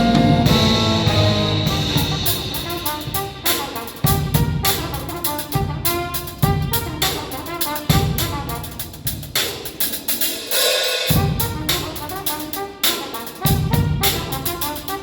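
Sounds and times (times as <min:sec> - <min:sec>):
jazz band playing: 0:00.0 - 0:09.8, 0:11.1 - 0:15.0.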